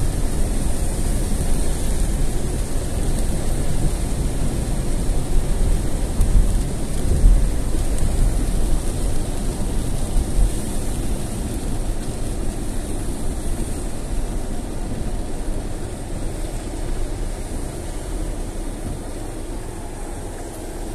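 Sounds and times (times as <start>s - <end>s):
rain: 0.0s - 20.9s
tyre and road noise: 0.0s - 20.9s.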